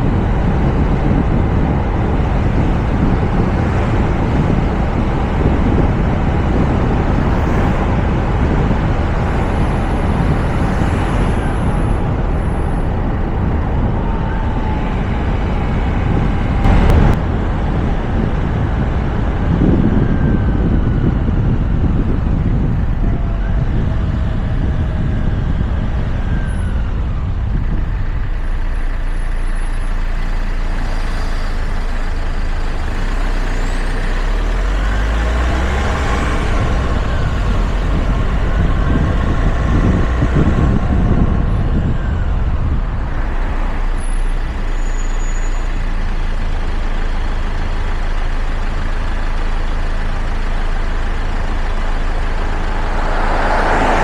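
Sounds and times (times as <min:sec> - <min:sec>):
car road and wind noise: 0:00.0 - 0:54.0.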